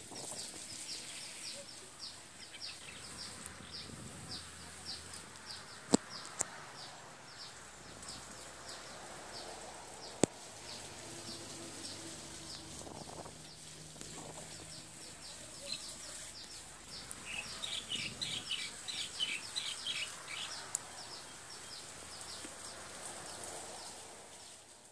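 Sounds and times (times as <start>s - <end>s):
birds chirping: 0.0s - 24.1s.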